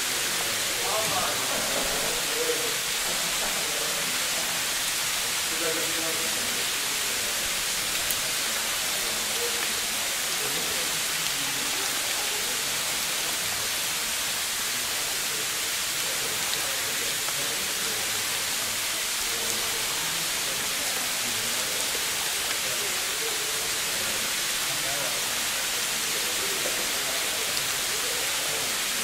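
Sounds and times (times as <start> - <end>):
faint indistinct murmurs: 0.0 - 29.0
steady hiss: 0.0 - 29.0.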